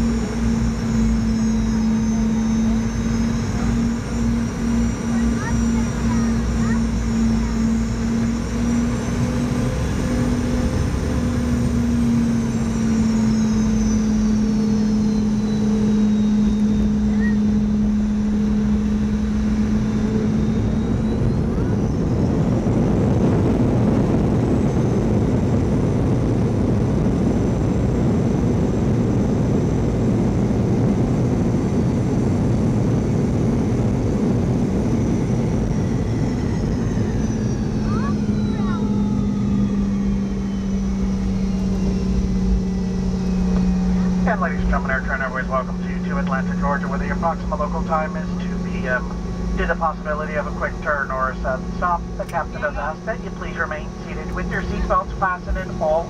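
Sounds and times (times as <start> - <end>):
jet engines from cabin: 0.0 - 56.0.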